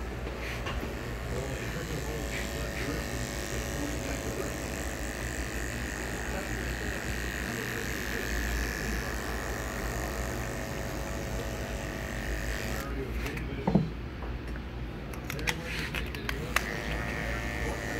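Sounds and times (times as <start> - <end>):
electric hair clippers whining: 0.0 - 13.4, 16.3 - 17.9.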